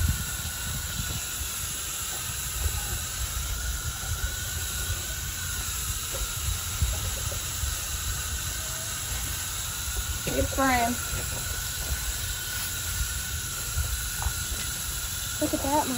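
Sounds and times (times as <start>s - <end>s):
hose nozzle spraying water: 0.0s - 15.9s.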